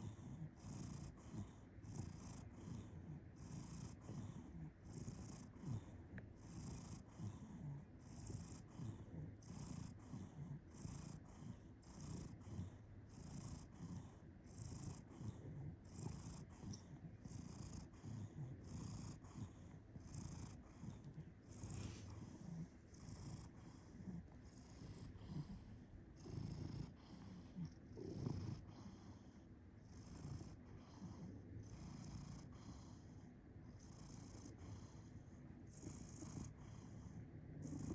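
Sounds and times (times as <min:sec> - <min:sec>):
cat purring and snoring: 0:00.0 - 0:37.9.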